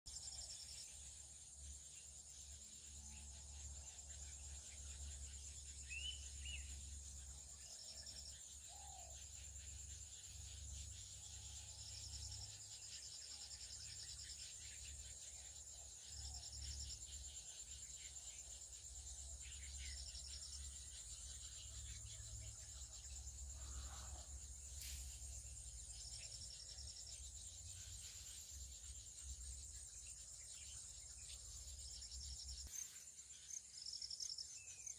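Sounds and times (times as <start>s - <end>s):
insect chorus with trills: 0.1s - 34.9s
bird chirps: 2.8s - 34.9s.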